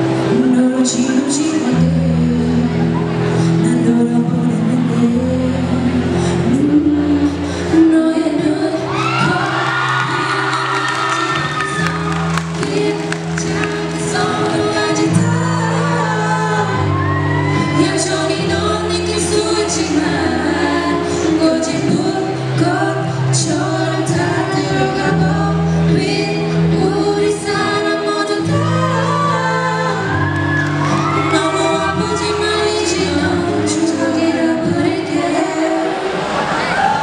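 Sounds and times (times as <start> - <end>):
women singing pop song: 0.0 - 37.0.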